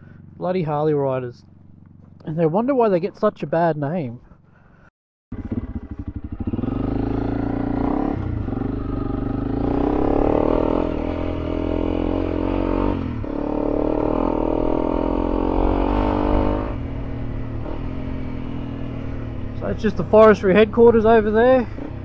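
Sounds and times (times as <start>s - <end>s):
motorcycle engine changing gear: 1.4s - 2.4s, 5.3s - 22.0s.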